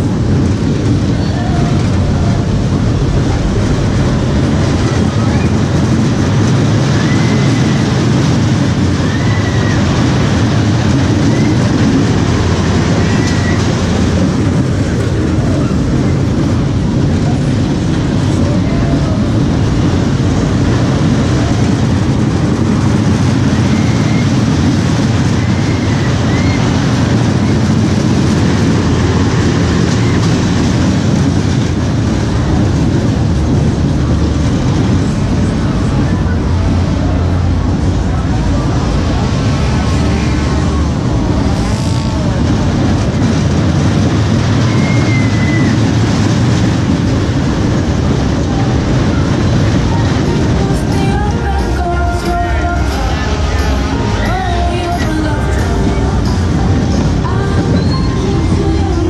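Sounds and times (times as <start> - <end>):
roller coaster wheels rumbling: 0.0 - 59.0.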